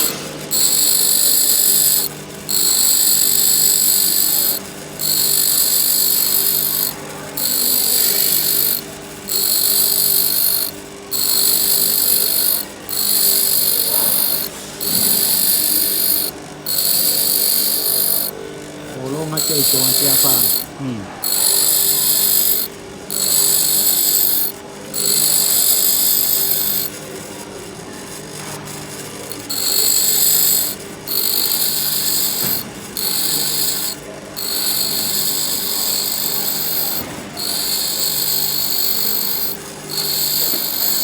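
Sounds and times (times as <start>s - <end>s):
grinder motor running: 0.0s - 41.0s
high hissing grind of drill bit: 0.0s - 41.0s.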